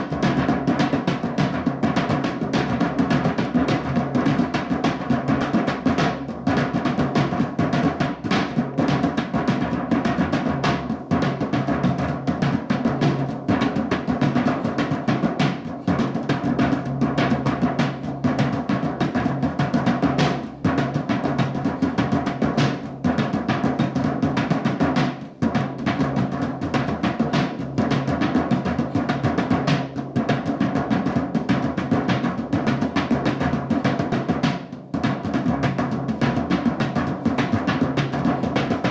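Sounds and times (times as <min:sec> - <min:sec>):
fast drumming: 0:00.0 - 0:38.9.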